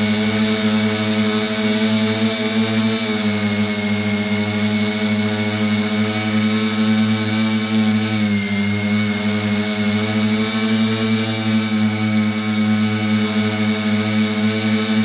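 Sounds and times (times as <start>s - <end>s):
drone propellers buzzing whine: 0.0s - 15.0s.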